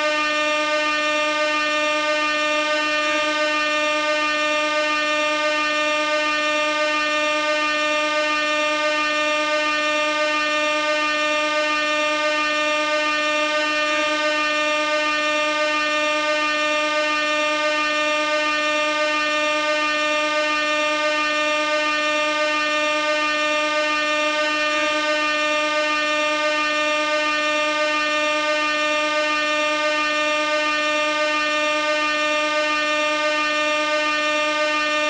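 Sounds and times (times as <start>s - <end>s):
air horn blast: 0.0s - 35.0s.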